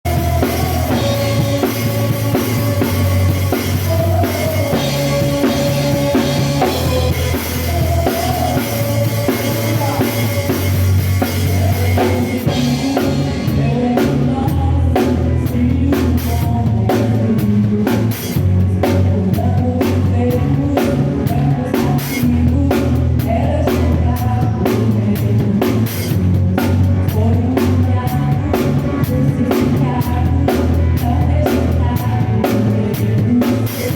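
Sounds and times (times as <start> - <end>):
drum kit playing: 0.0 - 33.9
gospel backing track: 0.0 - 33.9.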